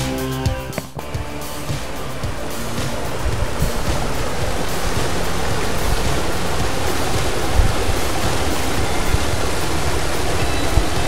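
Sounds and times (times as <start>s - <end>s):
low rumbling: 0.8s - 11.0s
waterfall rushing: 1.1s - 11.0s.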